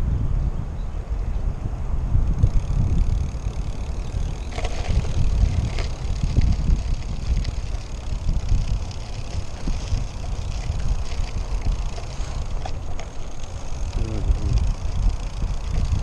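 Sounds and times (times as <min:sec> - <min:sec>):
wind rumble on microphone: 0:00.0 - 0:16.0
bike rattling over bumps: 0:02.2 - 0:16.0
bike tyres on gravel: 0:02.2 - 0:16.0.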